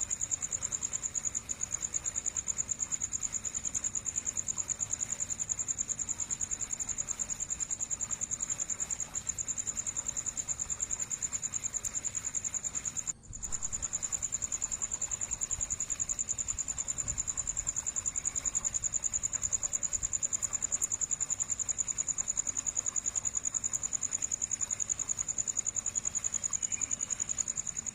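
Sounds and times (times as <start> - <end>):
high-pitched insect trill: 0.0 - 27.9.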